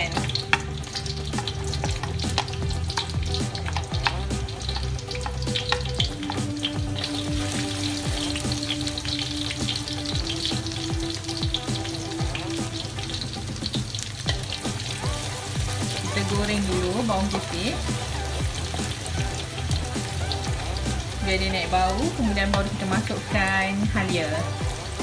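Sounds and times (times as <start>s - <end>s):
garlic sizzling in hot oil: 0.0s - 25.0s.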